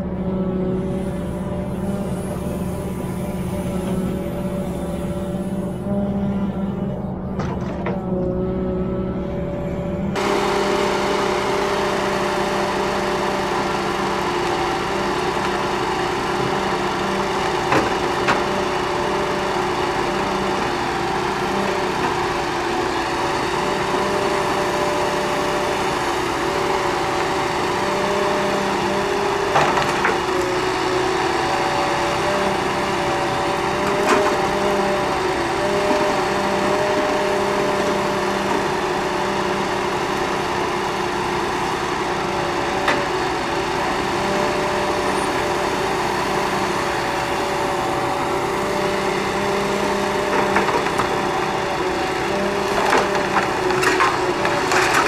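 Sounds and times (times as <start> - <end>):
diesel engine and hydraulics: 0.0 - 55.0.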